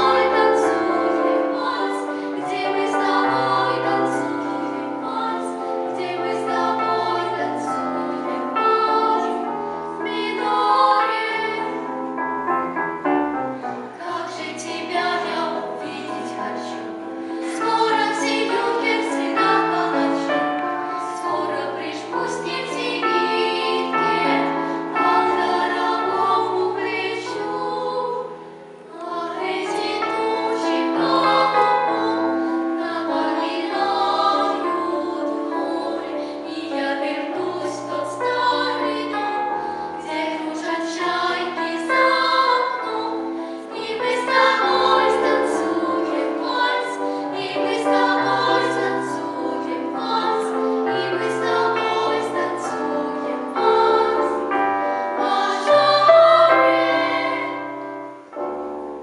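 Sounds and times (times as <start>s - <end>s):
vocal ensemble singing: 0.0s - 12.0s, 13.6s - 58.3s.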